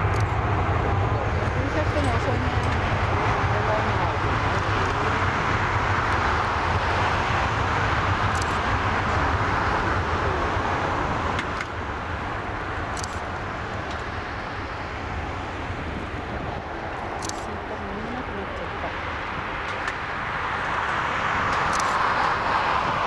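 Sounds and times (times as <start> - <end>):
jet engines at takeoff power: 0.0 - 23.0.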